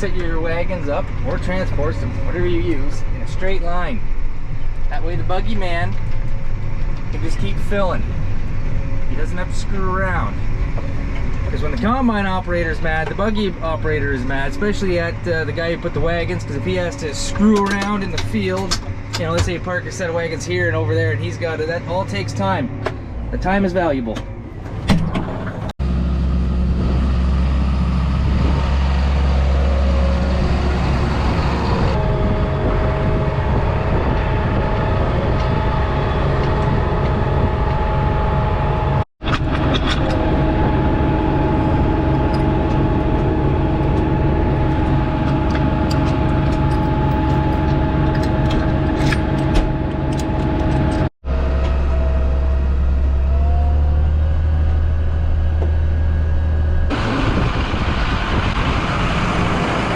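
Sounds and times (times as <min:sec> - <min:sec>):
heavy machinery engines humming: 0:00.0 - 0:59.9
whining tones: 0:00.0 - 0:59.9.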